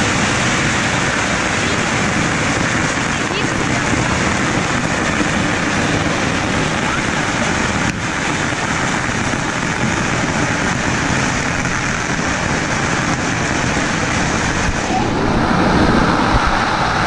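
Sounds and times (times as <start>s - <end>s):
firecracker string crackling: 0.0s - 17.0s.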